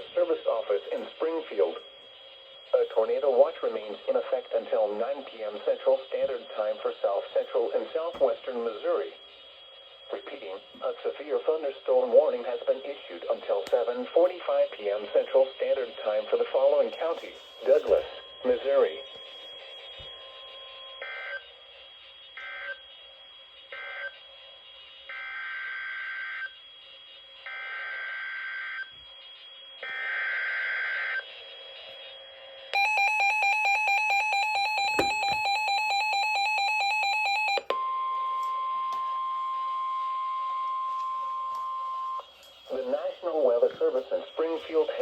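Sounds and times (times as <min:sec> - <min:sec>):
steady warning alarm tone: 0:00.0 - 0:45.0.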